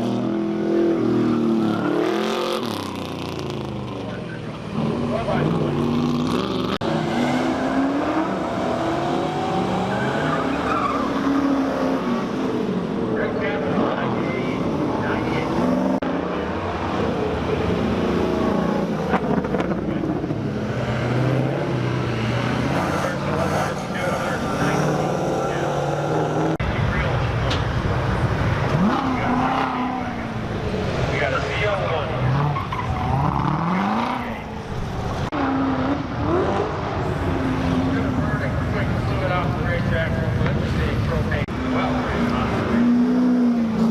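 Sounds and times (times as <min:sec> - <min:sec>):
race car engines running: 0:00.0 - 0:43.9.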